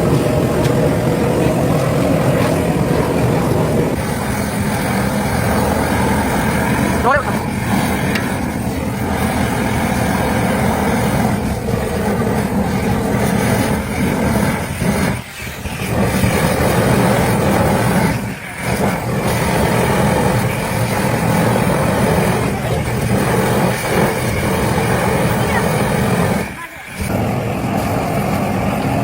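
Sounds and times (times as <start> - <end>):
heavy machinery running: 0.0 - 29.0.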